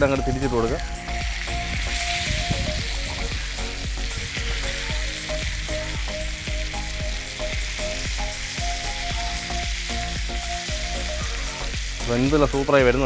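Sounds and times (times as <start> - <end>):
steak sizzling in a pan: 0.0 - 13.0.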